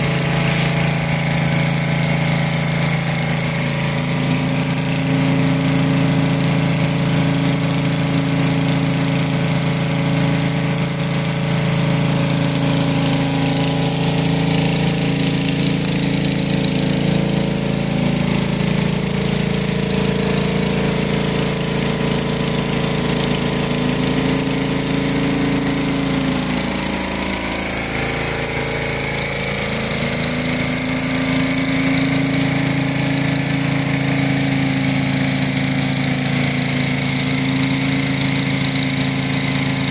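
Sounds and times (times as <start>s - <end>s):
pressure washer engine running: 0.0s - 39.9s
surface cleaner hissing water: 0.0s - 39.9s.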